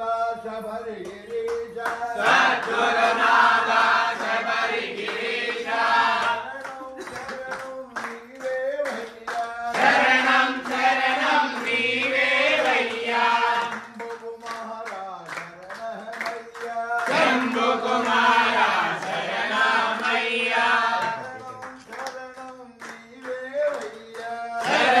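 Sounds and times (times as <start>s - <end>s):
group singing a chant: 0.0s - 25.0s
hands clapping a beat: 1.0s - 25.0s.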